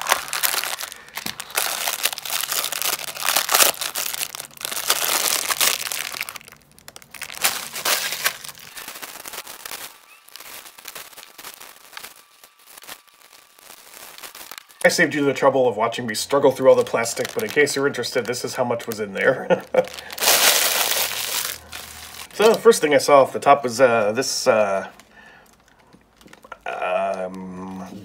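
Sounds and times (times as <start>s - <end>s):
plastic bags crinkling: 0.0s - 27.4s.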